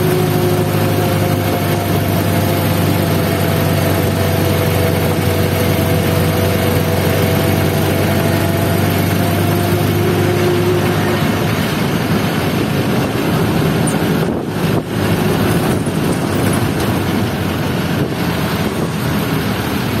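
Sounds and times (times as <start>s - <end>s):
road noise rushing: 0.0s - 20.0s
vehicle engine hum: 0.0s - 20.0s.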